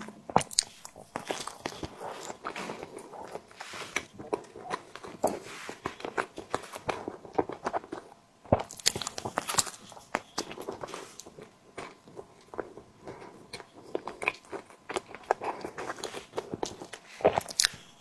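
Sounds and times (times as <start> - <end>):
wet chewing mouth clicks: 0.3 - 8.0, 8.6 - 18.0.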